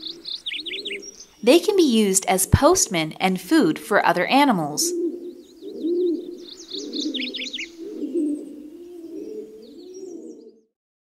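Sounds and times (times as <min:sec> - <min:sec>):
doves cooing: 0:00.0 - 0:03.2, 0:03.8 - 0:10.7.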